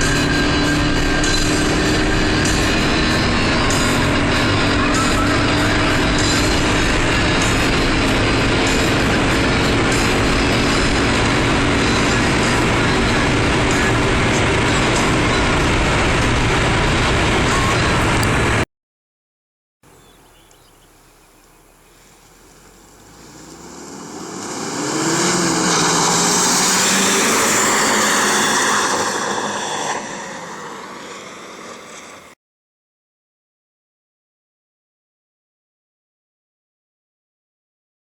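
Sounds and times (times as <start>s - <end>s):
car engine at high speed: 0.0s - 18.6s, 19.9s - 32.4s
car engine revving: 0.0s - 18.6s, 19.9s - 32.4s.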